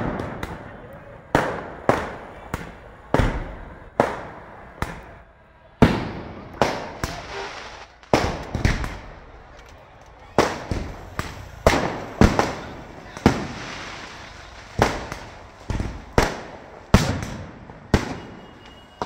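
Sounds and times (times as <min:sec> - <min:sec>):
firecrackers bursting: 0:00.0 - 0:19.0.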